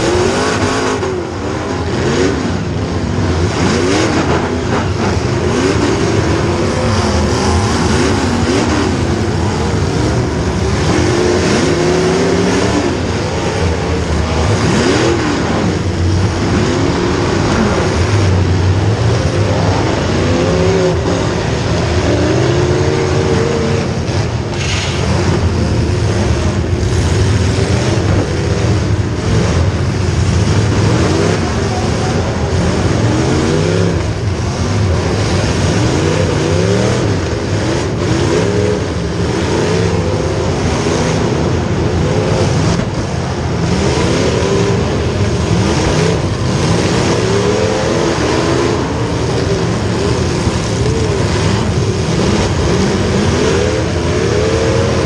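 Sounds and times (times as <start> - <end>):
racing engines revving: 0.0 - 55.0.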